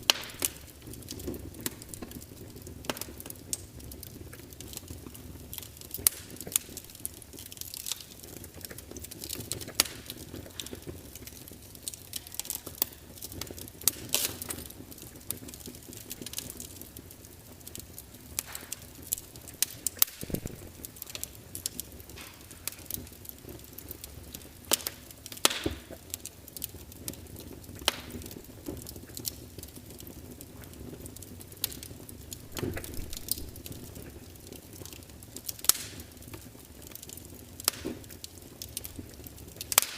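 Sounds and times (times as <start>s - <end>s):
log fire crackling and popping: 0.0s - 39.9s
low steady hiss: 0.0s - 39.9s.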